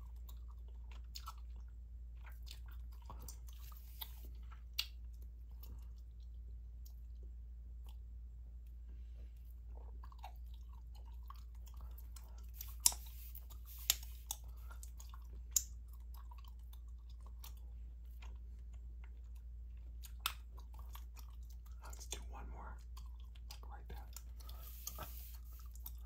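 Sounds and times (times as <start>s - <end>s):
gum chewing: 0.0s - 26.0s.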